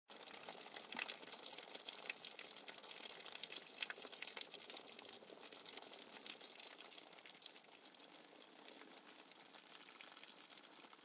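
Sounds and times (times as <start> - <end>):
rain pattering: 0.1 - 11.0
water dripping off roof edge: 0.2 - 11.0.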